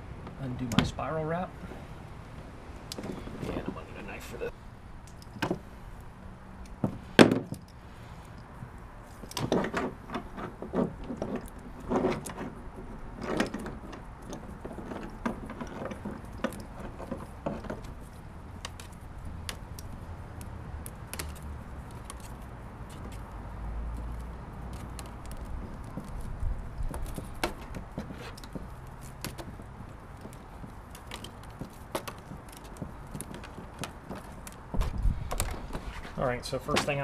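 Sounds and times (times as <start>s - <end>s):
cables clicking and rattling: 2.8s - 37.0s.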